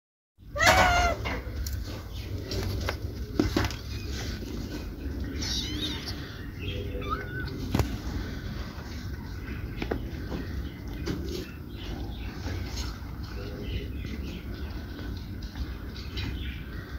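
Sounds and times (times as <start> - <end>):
cats eating with soft clicks: 1.4 - 16.9.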